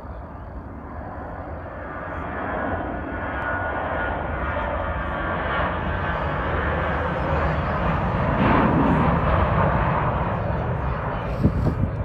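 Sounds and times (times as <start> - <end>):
jet airliner taking off: 0.0 - 12.0.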